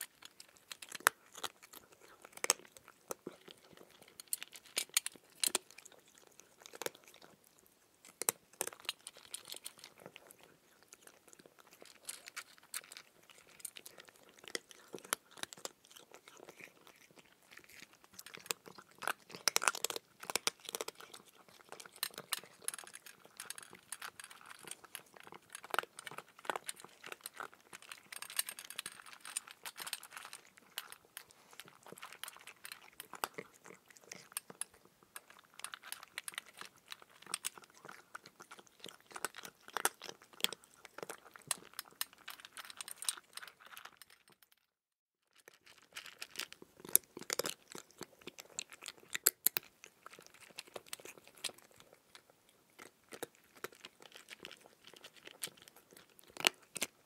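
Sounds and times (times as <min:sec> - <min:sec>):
chewing cucumber: 0:00.0 - 0:44.5, 0:45.3 - 0:57.0.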